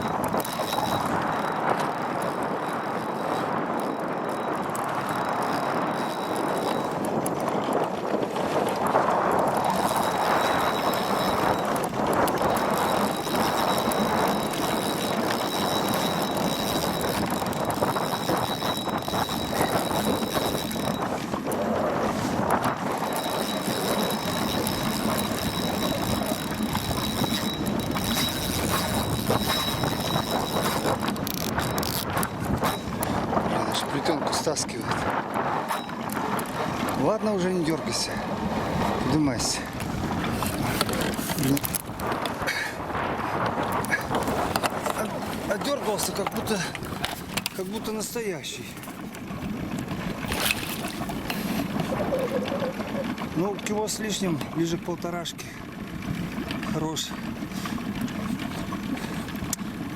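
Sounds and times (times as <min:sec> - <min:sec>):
fishing reel ticking: 0:00.0 - 0:38.1, 0:39.4 - 0:42.5, 0:43.3 - 0:55.2
water noise: 0:00.0 - 0:59.9
wind: 0:00.0 - 0:59.9.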